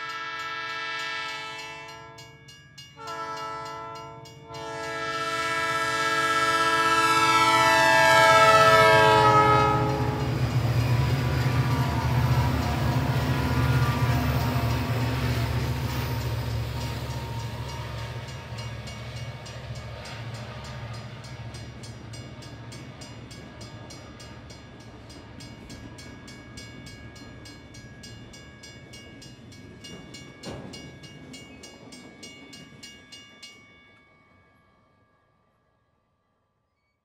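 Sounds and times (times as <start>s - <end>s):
train rumble: 0.0s - 34.1s.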